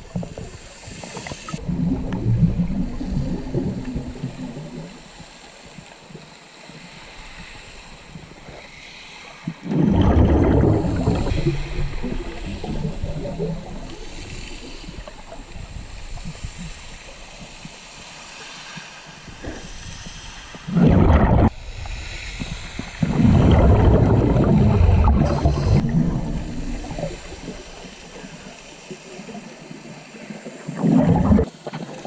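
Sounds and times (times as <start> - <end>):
water gurgling and sloshing: 0.0 - 32.0.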